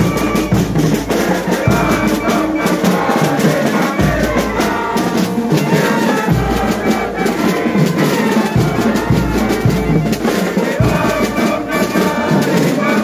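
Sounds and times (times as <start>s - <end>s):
brass band playing a hymn: 0.0s - 13.0s.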